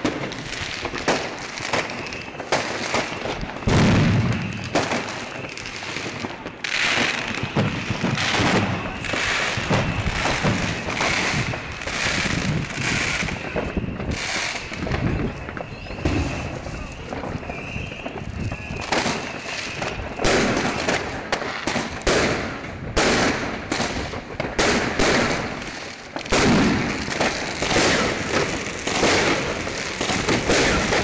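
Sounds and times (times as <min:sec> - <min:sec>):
fireworks bangs and crackle: 0:00.0 - 0:31.0
hissing crackling bursts: 0:00.0 - 0:31.0.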